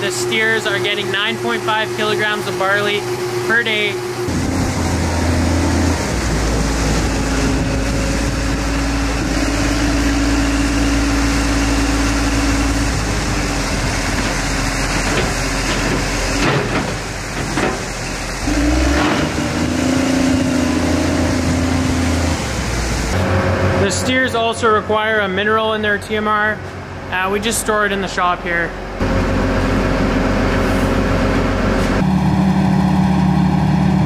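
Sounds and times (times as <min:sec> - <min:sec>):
diesel engine hum: 0:00.0 - 0:34.0
tractor running: 0:00.0 - 0:34.0.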